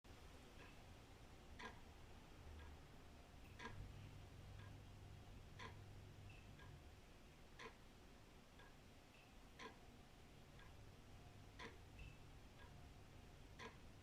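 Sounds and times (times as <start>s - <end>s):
wall clock ticking: 0.2s - 14.0s.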